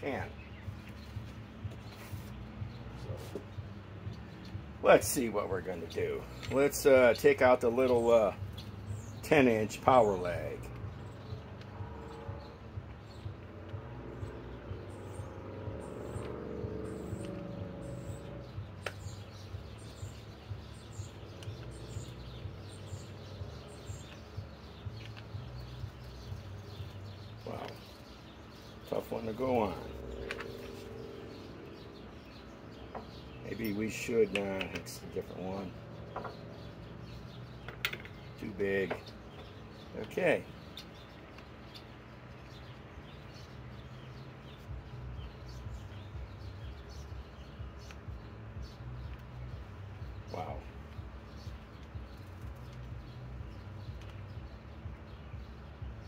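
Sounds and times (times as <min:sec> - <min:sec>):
birds chirping: 0:00.0 - 0:56.0
outdoor background hiss: 0:00.0 - 0:56.0
low background rumble: 0:10.1 - 0:56.0.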